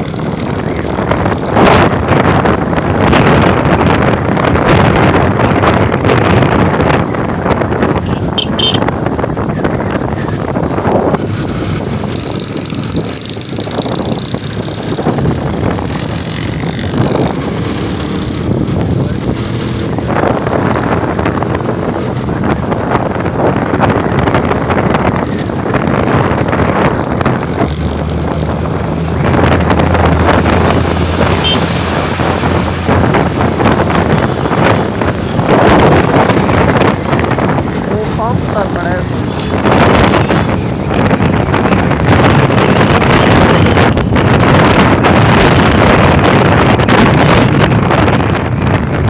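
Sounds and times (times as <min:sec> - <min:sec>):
motorcycle engine running: 0:00.0 - 0:49.0
wind buffeting microphone: 0:00.0 - 0:49.0.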